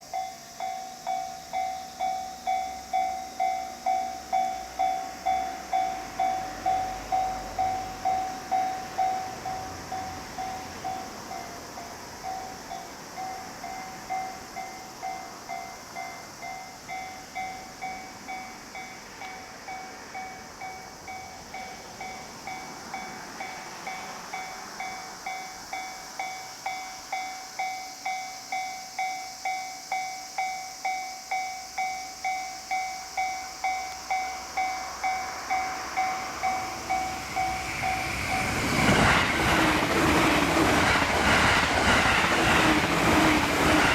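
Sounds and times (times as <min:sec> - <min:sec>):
electric train rushing past: 0:00.0 - 0:43.9
level-crossing warning bell: 0:00.0 - 0:43.9.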